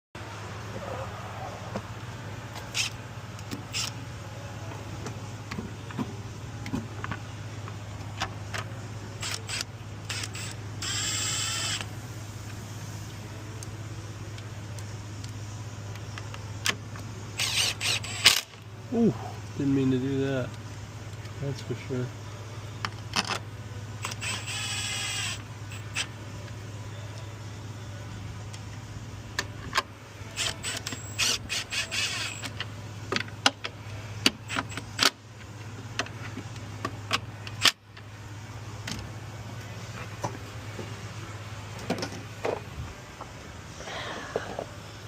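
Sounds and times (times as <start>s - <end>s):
engine running steadily: 0.2s - 45.0s.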